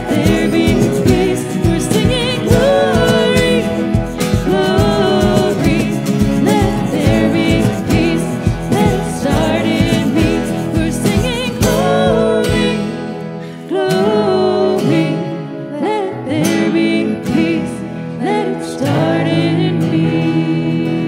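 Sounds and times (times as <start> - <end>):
worship band singing: 0.0 - 21.0.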